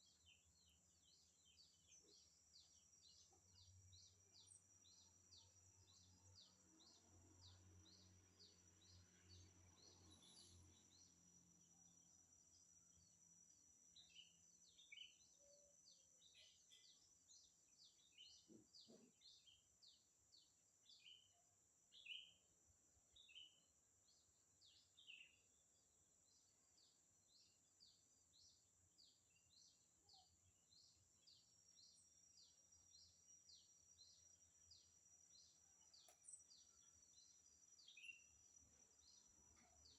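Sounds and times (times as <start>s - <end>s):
bird chirping: 0.0s - 11.2s, 14.0s - 22.5s, 23.1s - 39.9s.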